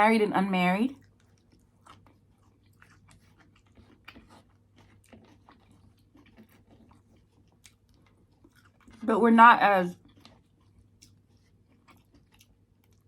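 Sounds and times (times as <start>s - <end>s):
faint chewing: 0.9s - 13.0s.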